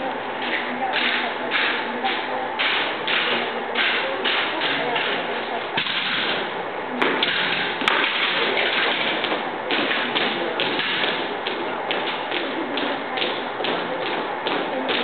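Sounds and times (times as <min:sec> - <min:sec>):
steady background hiss: 0:00.0 - 0:15.0
rifles slapped and thumped: 0:00.4 - 0:15.0
stamping steps: 0:00.4 - 0:15.0.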